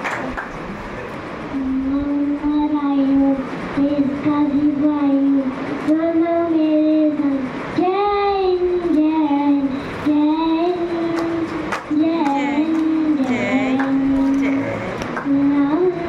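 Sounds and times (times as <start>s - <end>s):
boy singing into a microphone: 1.5s - 16.0s.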